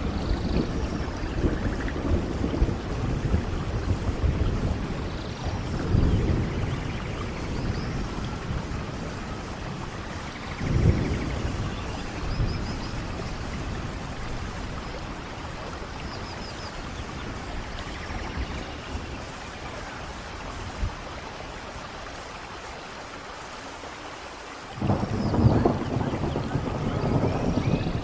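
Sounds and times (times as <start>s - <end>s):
low rumble of thunder: 0.0s - 22.2s, 24.7s - 28.0s
heavy rainfall: 0.0s - 28.0s.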